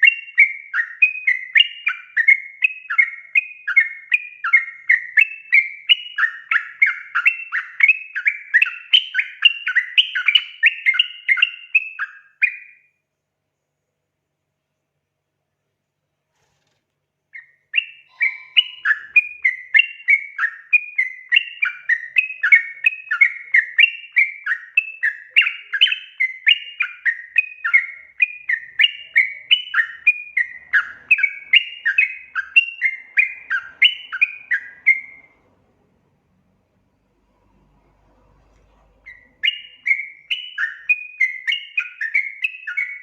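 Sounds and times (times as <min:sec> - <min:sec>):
bird chirping: 0:00.0 - 0:43.0.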